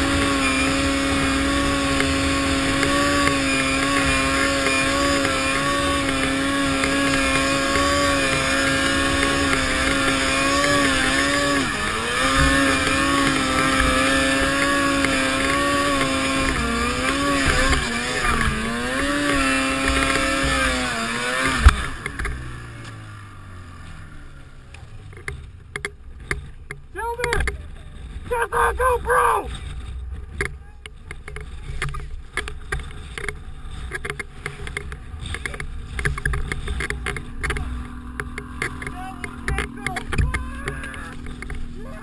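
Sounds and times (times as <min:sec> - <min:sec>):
snowmobile engine revving: 0:00.0 - 0:25.6, 0:26.3 - 0:42.0.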